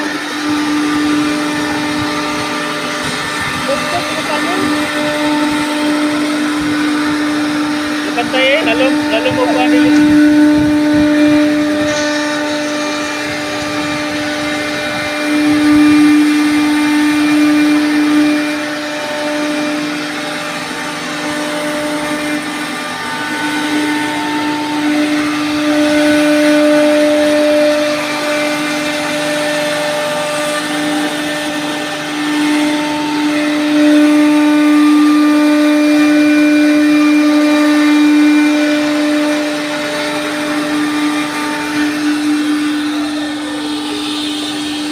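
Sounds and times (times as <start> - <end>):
router bit cutting wood: 0.0 - 44.9
router spindle whining: 0.0 - 44.9.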